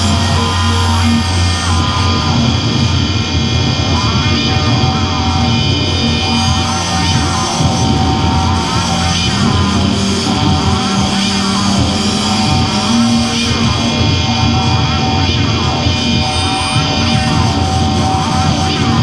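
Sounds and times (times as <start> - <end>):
industrial ambient drone music: 0.0 - 19.0.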